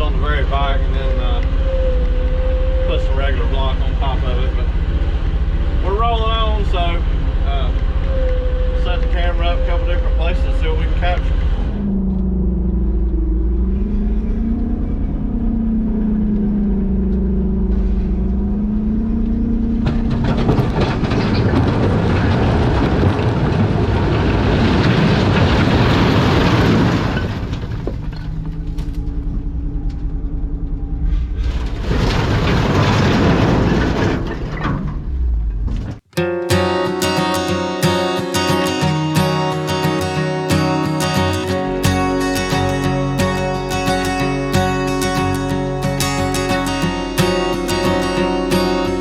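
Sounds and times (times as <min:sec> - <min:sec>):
track loader engine running: 0:00.0 - 0:49.0.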